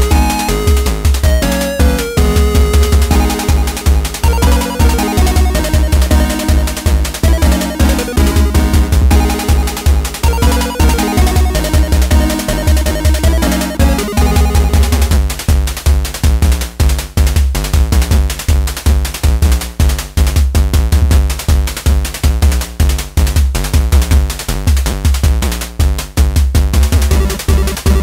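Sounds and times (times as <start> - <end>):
electronic music with drum-machine beat: 0.0 - 28.0.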